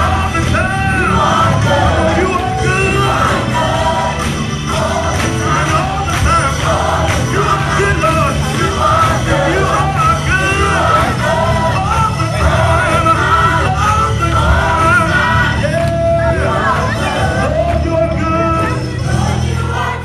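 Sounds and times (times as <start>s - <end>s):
gospel choir singing: 0.0s - 20.0s
low bass accompaniment: 0.0s - 20.0s.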